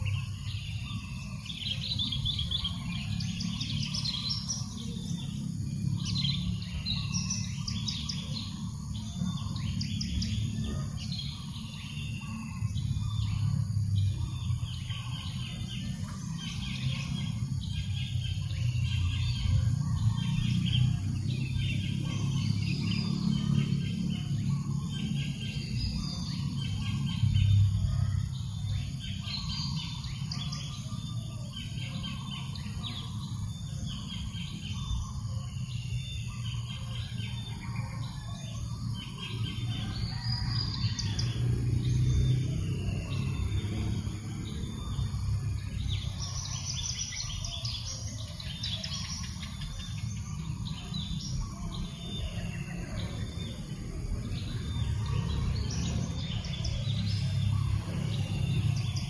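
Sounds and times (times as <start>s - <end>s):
wild birds chirping and calling: 0.0s - 59.0s.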